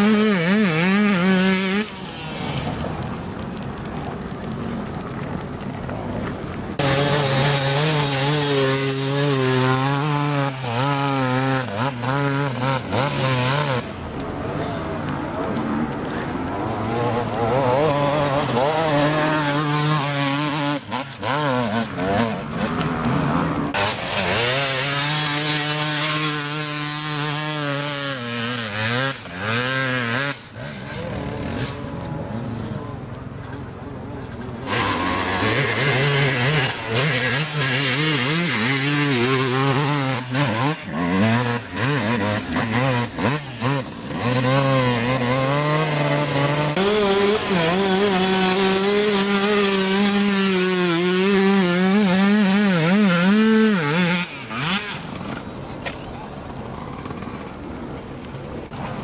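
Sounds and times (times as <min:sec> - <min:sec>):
motorcycle engine revving: 0:00.0 - 0:03.5, 0:06.7 - 0:58.0.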